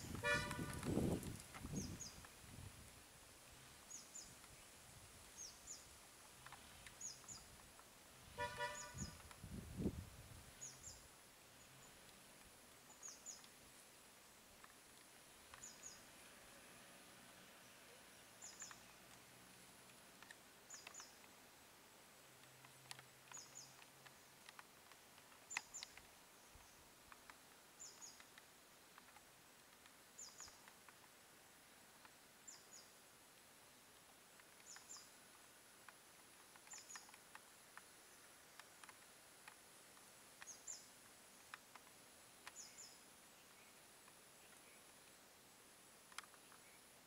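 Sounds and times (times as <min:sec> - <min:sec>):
faint clicks: 0:00.4 - 0:02.4, 0:03.5 - 0:09.9, 0:11.6 - 0:16.3, 0:17.8 - 0:47.0.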